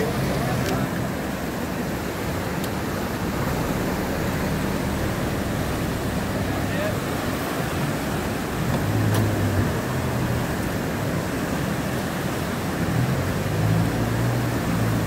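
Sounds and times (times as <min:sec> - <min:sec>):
boat motor rumbling: 0:00.0 - 0:15.0
fast river water rushing: 0:00.0 - 0:15.0.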